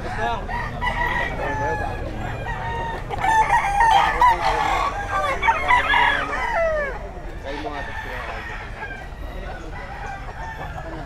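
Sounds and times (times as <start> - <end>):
chickens clucking: 0.0 - 11.0
roosters crowing: 0.0 - 11.0.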